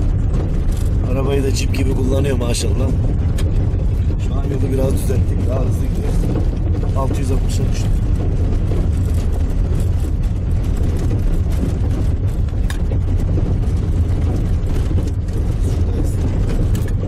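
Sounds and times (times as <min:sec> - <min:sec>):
car engine and tyres rumbling: 0:00.0 - 0:17.0
car rattling and knocking: 0:00.0 - 0:17.0.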